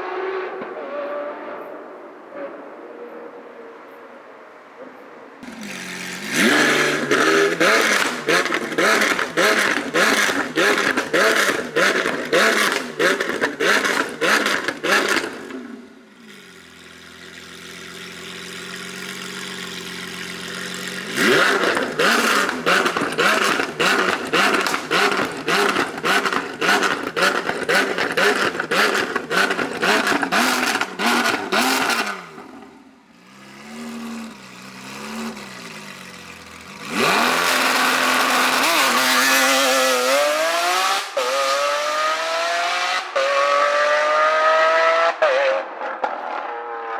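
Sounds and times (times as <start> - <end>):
car engine revving: 5.4 - 16.8, 18.4 - 46.9.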